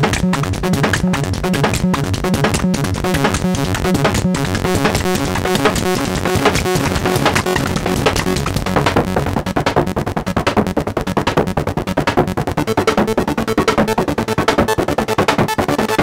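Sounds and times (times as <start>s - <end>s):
clicky electronic percussion: 0.0s - 15.7s
arpeggiated synthesizer notes: 0.0s - 16.0s.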